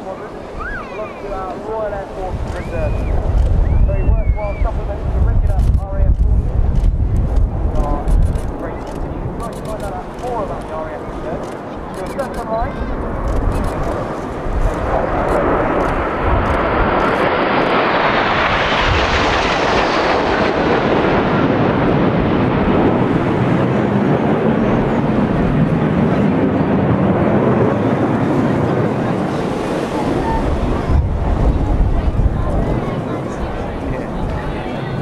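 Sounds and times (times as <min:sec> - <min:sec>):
jets passing overhead: 0:00.0 - 0:35.0.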